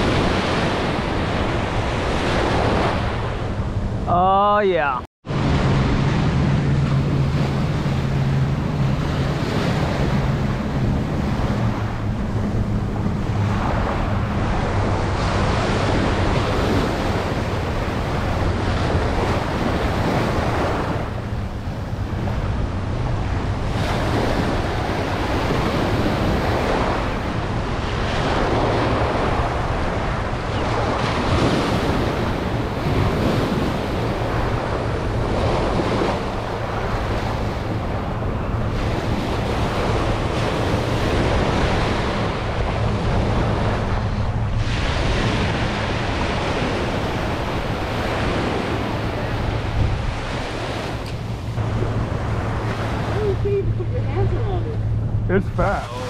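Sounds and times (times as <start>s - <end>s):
small waves breaking on sand: 0.0s - 3.5s, 4.1s - 56.0s
wind noise on microphone: 0.0s - 4.2s, 4.8s - 56.0s.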